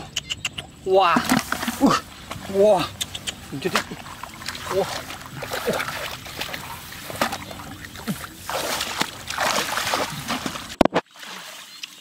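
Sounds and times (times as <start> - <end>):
water sloshing and splashing: 1.0 - 12.0.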